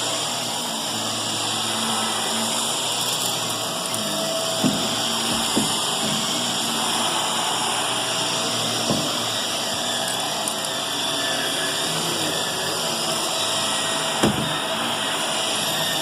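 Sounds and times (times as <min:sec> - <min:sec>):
vacuum cleaner on carpet: 0:00.0 - 0:16.0.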